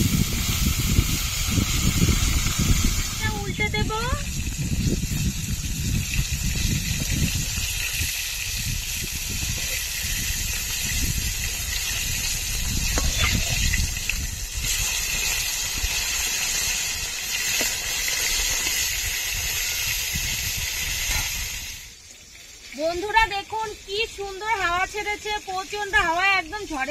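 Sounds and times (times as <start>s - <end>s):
gusty wind on microphone: 0.0s - 21.9s
fish sizzling in oil: 0.0s - 26.9s.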